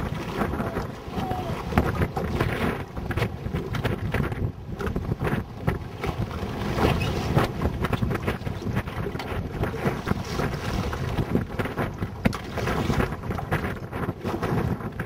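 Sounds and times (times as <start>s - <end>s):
choppy water slapping: 0.0s - 15.0s
wind buffeting microphone: 0.0s - 15.0s.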